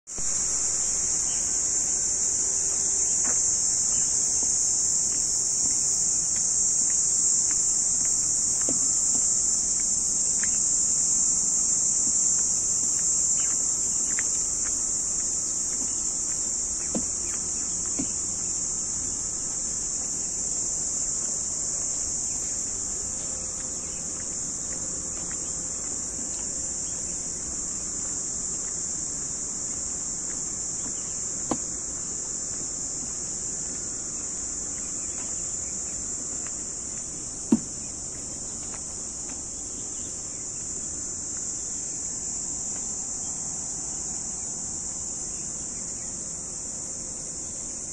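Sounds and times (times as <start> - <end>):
insect chorus shrilling: 0.1 - 46.3.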